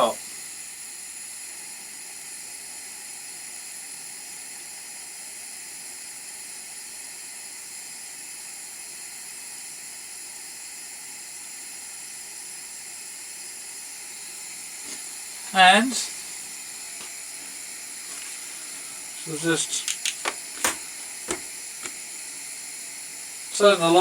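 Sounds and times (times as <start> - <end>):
pressure lamp hissing: 0.0 - 24.0.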